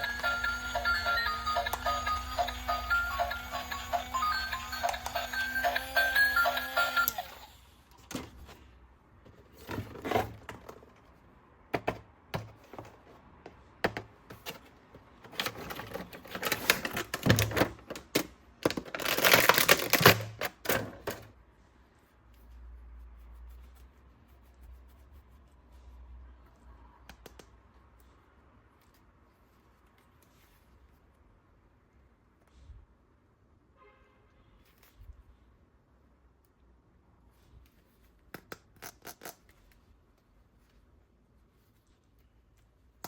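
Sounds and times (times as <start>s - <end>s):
plastic toys and packaging handled: 0.0s - 22.6s, 23.4s - 32.8s, 37.2s - 43.0s.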